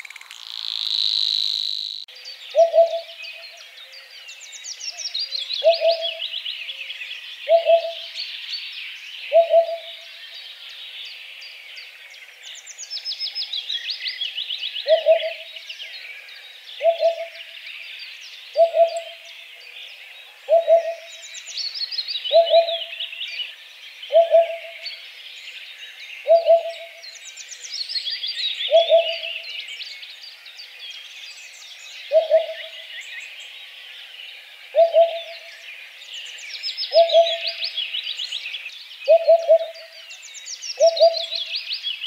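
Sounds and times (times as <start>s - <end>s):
small birds trilling and chirping: 0.0s - 42.0s.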